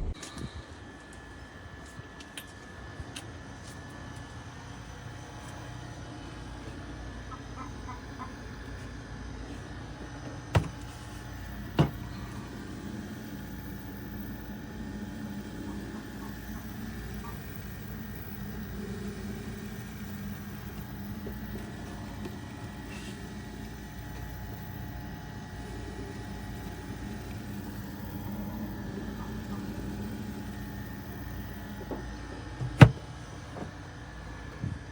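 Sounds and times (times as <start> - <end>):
engine-like low rumble: 4.6 - 33.6.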